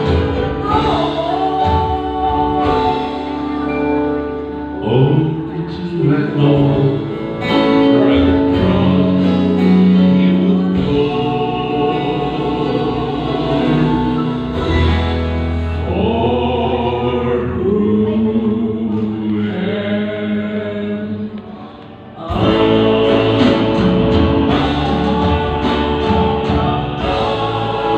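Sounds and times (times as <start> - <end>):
gospel singing with music: 0.0 - 27.9.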